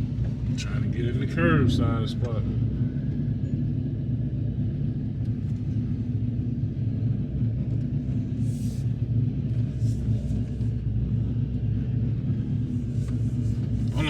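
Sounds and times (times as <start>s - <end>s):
engine rumbling at low speed: 0.0s - 14.0s.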